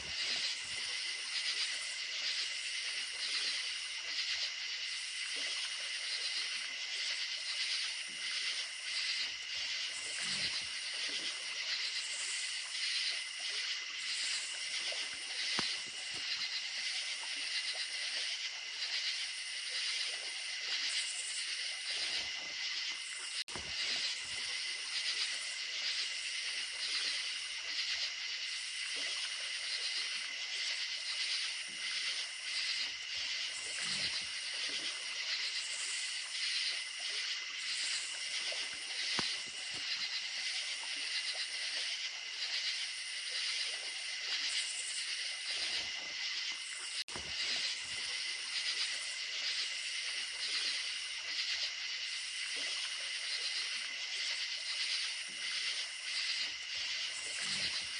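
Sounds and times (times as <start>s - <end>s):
creek running: 0.0s - 57.9s
crickets chirping: 0.0s - 57.9s.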